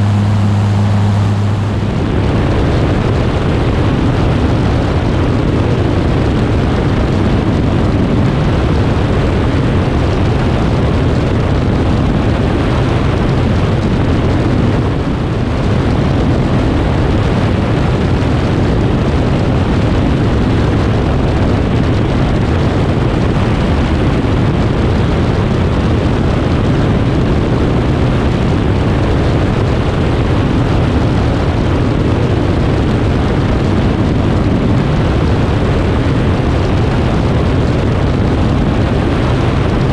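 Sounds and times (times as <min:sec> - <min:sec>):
light aircraft engine and propeller: 0:00.0 - 0:39.9
loud wind rush: 0:00.0 - 0:39.9.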